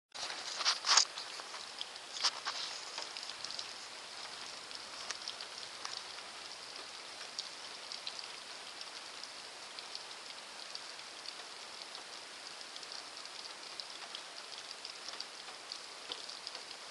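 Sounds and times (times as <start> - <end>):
steady rain on wet street: 0.2 - 16.9.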